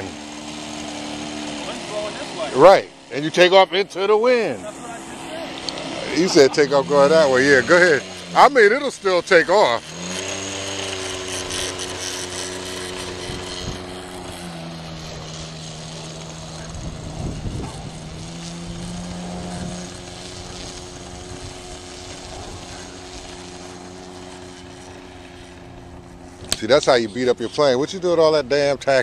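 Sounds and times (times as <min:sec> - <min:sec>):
model plane engine running: 0:00.0 - 0:29.0.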